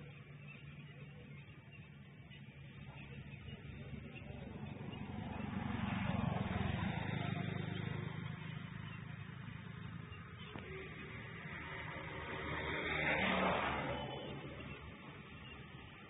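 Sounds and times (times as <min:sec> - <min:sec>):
vehicle passing by: 0:01.7 - 0:16.0.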